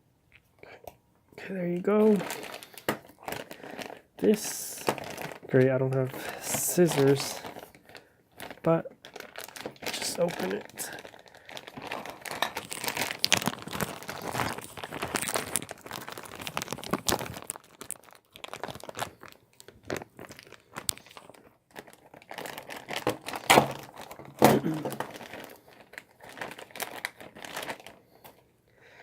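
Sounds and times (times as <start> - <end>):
packaging being torn and crinkled: 1.5 - 28.4.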